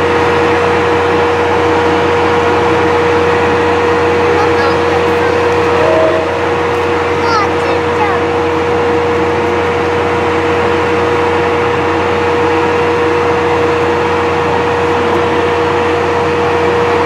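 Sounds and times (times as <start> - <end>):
trains droning and hissing: 0.0 - 17.0
mid-pitched whine: 0.1 - 17.0.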